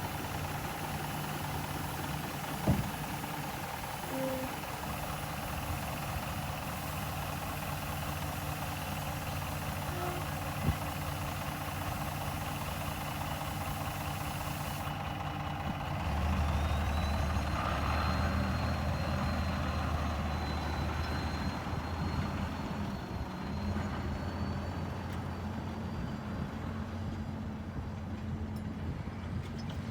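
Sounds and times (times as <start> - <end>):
diesel machinery engine running: 0.0 - 29.9.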